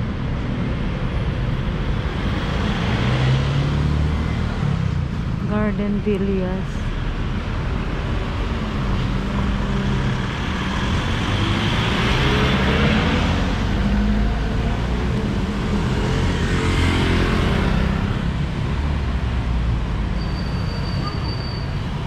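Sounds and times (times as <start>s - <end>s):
cars driving past: 0.0s - 5.5s, 6.8s - 22.0s.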